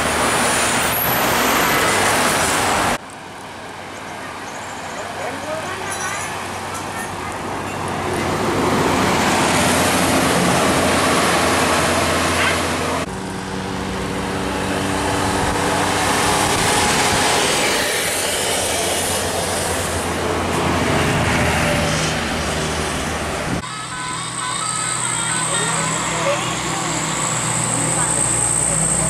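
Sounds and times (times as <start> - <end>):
buses driving past: 0.0 - 29.0.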